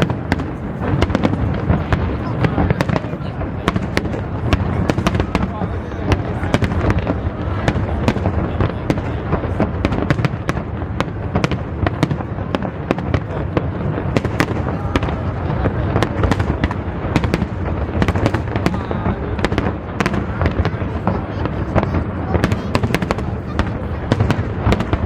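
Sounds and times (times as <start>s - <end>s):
fireworks bangs: 0.0s - 25.0s
low rumble of fireworks: 0.0s - 25.0s.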